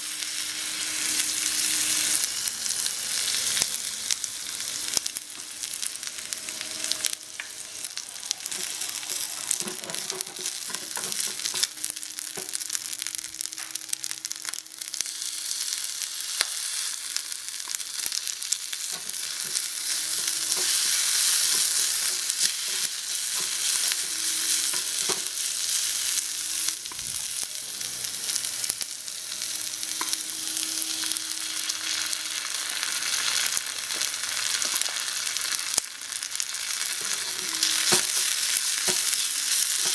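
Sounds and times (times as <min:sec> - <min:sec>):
pork sizzling in a wok: 0:00.0 - 0:39.9.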